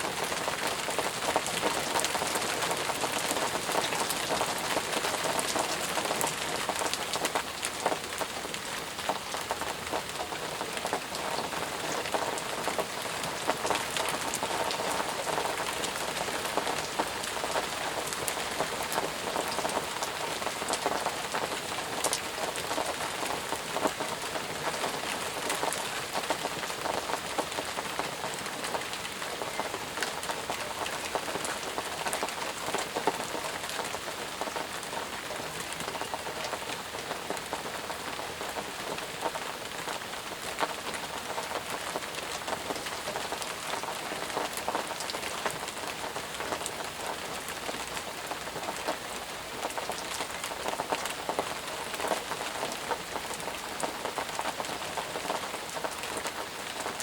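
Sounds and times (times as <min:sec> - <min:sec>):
raindrops striking close by: 0:00.0 - 0:57.0
steady intense rain: 0:00.0 - 0:57.0.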